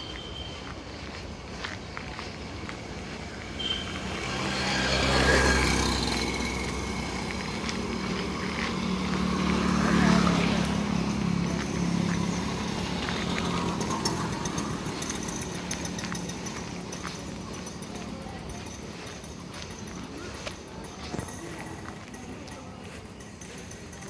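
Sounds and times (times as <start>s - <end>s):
motorcycle engines passing: 0.0s - 24.0s.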